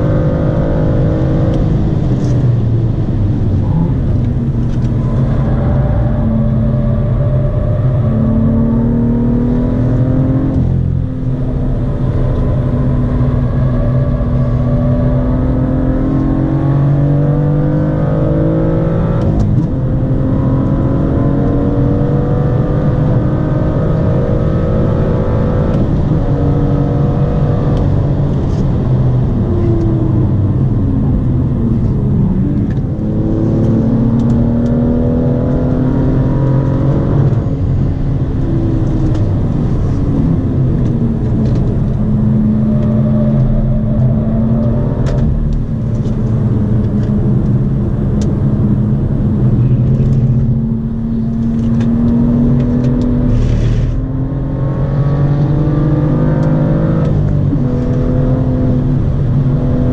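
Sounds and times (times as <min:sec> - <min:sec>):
car engine revving in cabin: 0:00.0 - 0:59.9.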